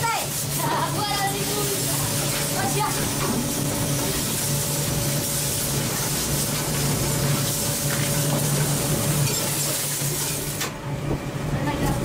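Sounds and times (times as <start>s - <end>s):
low machinery hum: 0.1s - 12.0s.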